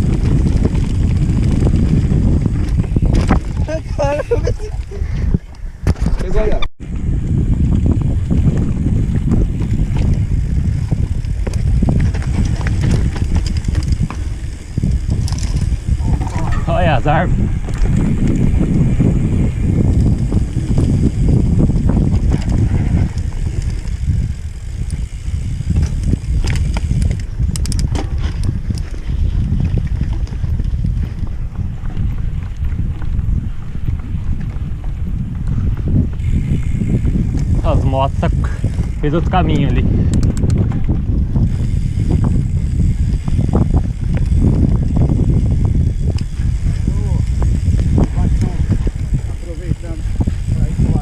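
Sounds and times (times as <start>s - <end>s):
bike rattling and knocking: 0.0s - 51.0s
tyre and wind rumble: 0.0s - 51.0s.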